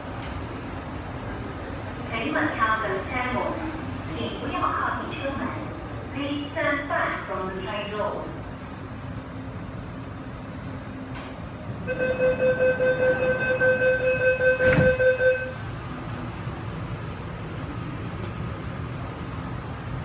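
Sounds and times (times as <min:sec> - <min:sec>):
train running rumble: 0:00.0 - 0:20.0.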